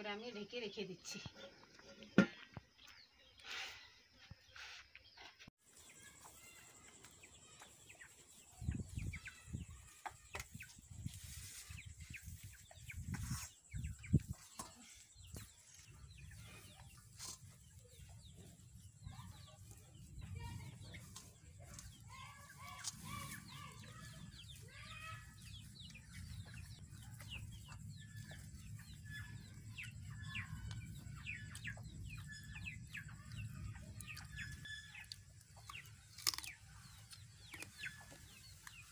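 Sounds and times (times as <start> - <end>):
chickens clucking: 4.7 - 38.9.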